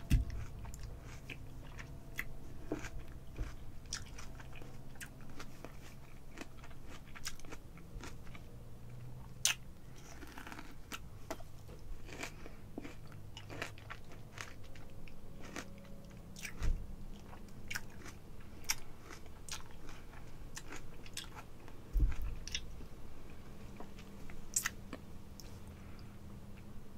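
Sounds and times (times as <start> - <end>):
wet chewing: 0.0 - 22.8.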